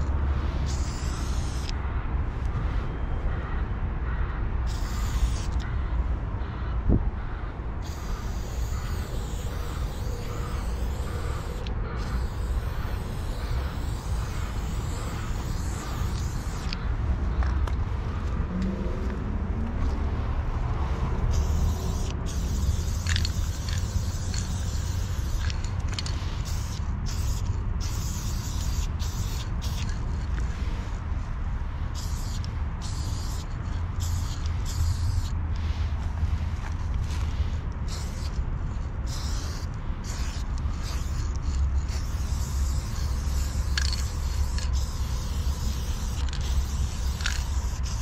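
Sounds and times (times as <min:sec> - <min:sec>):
spray paint can hissing: 0:00.0 - 0:01.8, 0:04.6 - 0:05.6, 0:07.8 - 0:17.8, 0:21.3 - 0:31.0, 0:31.9 - 0:48.0
steady low rumble: 0:00.0 - 0:48.0.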